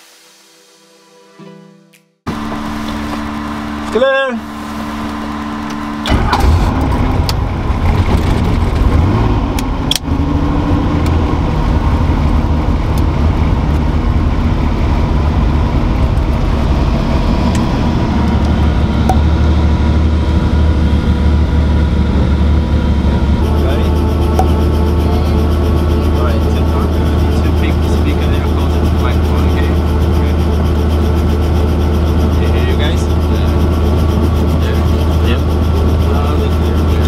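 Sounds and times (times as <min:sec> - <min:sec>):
helicopter engine and rotor: 0:02.3 - 0:37.0.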